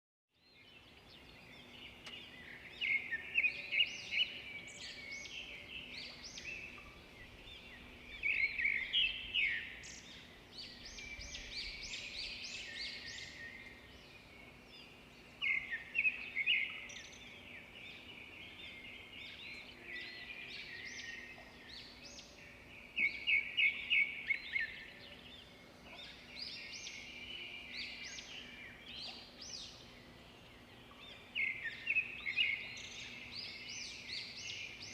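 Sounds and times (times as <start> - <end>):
birds singing and chirping: 0.4 - 34.9.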